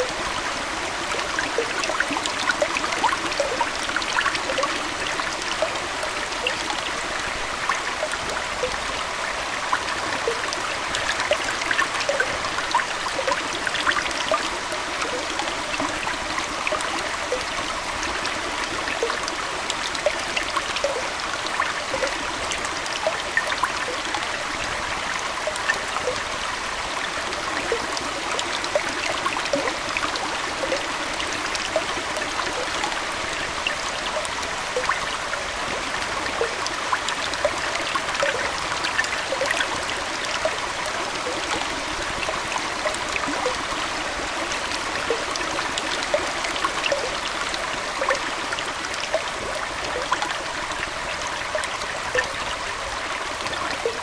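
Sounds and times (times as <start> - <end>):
aquarium water trickling and bubbling: 0.0 - 54.0.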